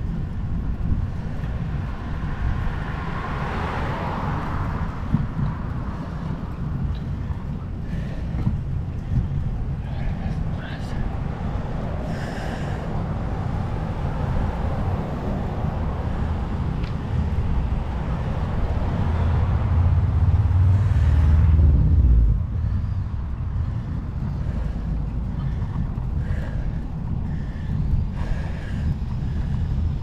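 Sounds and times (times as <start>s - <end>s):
road noise: 0.0s - 30.0s
wind buffeting microphone: 0.0s - 30.0s.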